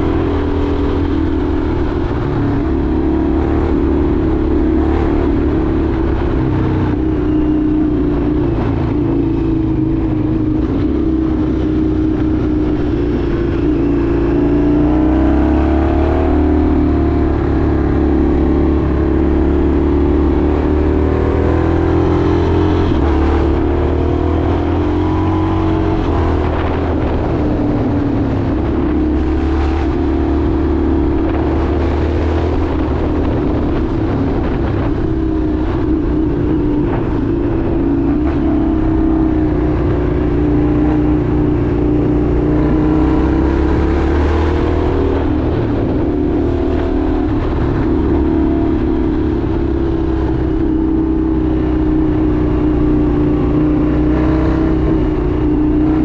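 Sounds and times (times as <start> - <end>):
motorcycle engine revving: 0.0 - 56.0
road noise: 0.0 - 56.0.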